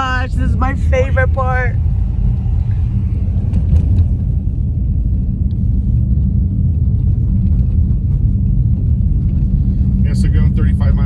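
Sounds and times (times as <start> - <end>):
car driving on snowy road: 0.0 - 11.0.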